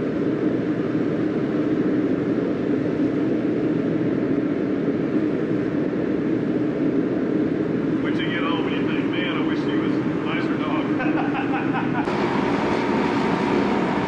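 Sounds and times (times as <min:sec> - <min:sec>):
forced-air heater running: 0:00.0 - 0:14.0.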